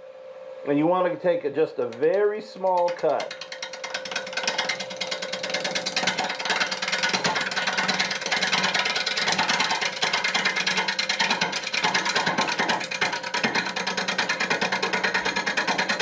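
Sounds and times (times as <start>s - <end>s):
gouge ticking on wood: 1.8s - 16.0s
wood lathe humming: 1.9s - 16.0s.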